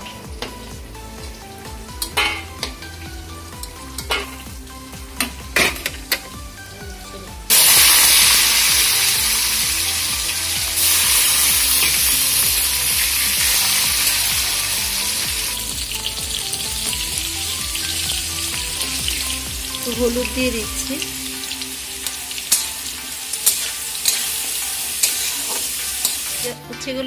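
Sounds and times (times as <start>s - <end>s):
vegetables sizzling in hot oil: 0.0s - 6.7s, 7.5s - 26.6s.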